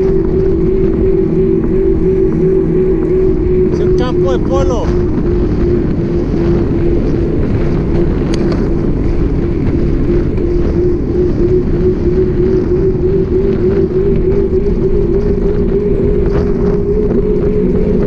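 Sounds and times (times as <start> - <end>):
bicycle droning hum on road: 0.0 - 18.0
wind rushing over microphone: 0.0 - 18.0.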